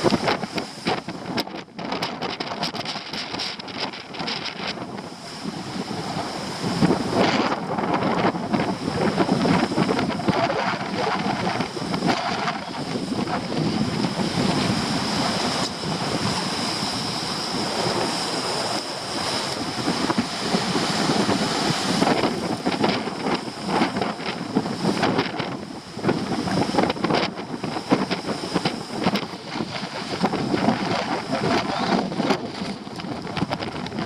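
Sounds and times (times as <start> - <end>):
surf crashing on rocks: 0.0 - 34.0
wind buffeting microphone: 0.0 - 34.0.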